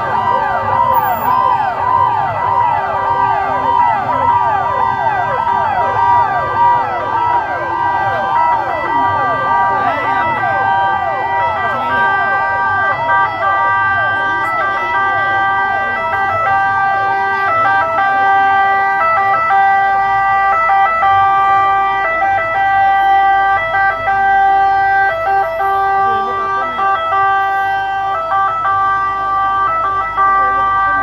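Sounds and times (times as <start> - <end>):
fire engine siren stepping pitches: 0.0 - 31.0.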